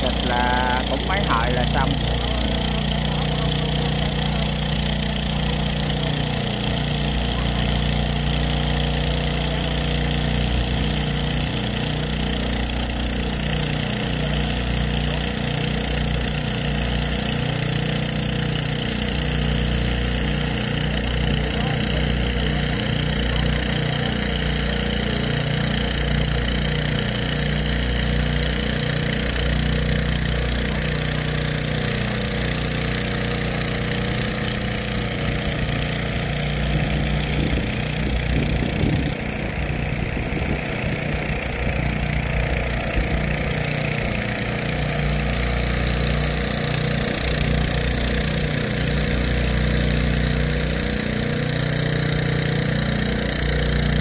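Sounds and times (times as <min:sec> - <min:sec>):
drone propellers humming: 0:00.0 - 0:54.0.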